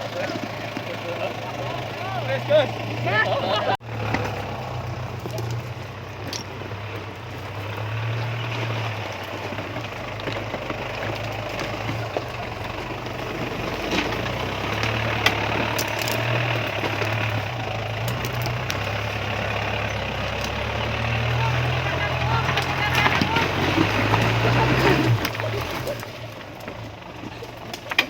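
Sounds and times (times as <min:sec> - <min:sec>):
truck engine running at low revs: 0:00.0 - 0:28.0.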